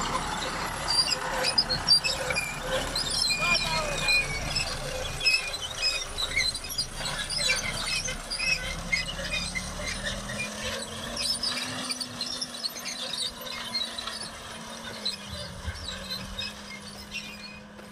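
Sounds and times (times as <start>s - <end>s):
high squeaks of metal drive parts: 0.0s - 17.9s
tractor engine droning: 0.0s - 17.9s.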